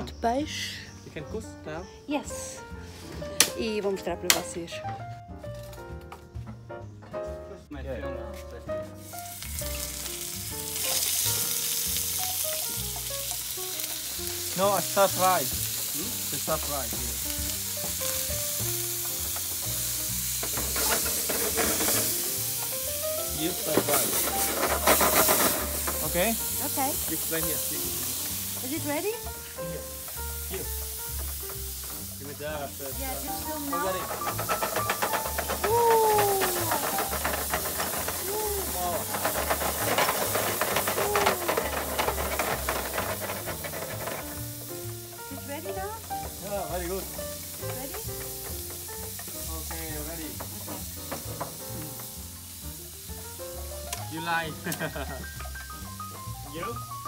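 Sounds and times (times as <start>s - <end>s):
food sizzling in hot oil: 0.0s - 5.9s, 8.6s - 57.0s
background music: 0.0s - 57.0s
utensils clacking against pan: 9.3s - 52.6s, 53.2s - 56.9s.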